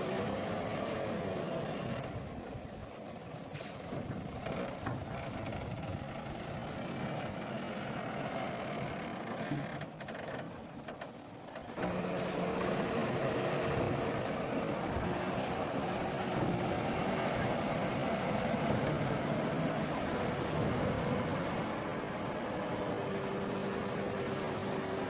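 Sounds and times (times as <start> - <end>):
diesel earthmoving machinery running: 0.0 - 25.0.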